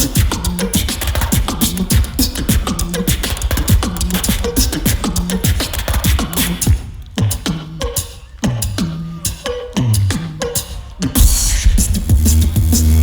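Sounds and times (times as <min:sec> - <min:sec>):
hi-hat hiss: 0:00.0 - 0:09.4, 0:10.6 - 0:13.0
beatboxing through speakers: 0:00.0 - 0:13.0.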